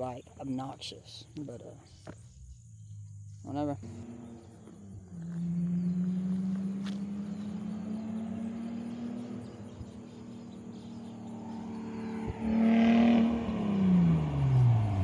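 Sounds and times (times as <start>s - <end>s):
car engine driving by: 2.2s - 15.0s.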